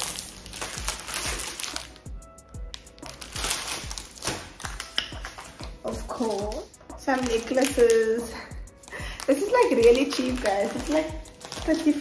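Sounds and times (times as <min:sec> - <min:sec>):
background music with beat: 0:00.0 - 0:12.0
plastic bags crinkling: 0:00.0 - 0:12.0.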